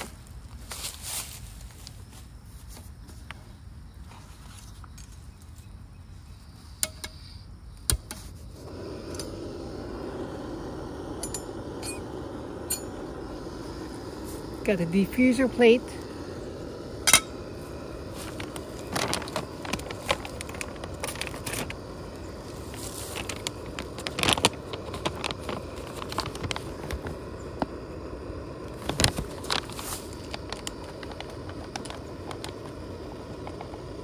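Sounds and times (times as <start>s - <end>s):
low background rush: 4.8s - 34.0s.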